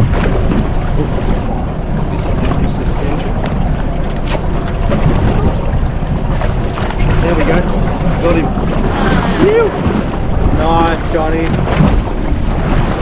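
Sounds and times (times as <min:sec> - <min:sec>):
water rumbling around hull: 0:00.0 - 0:13.0
wind buffeting microphone: 0:00.0 - 0:13.0.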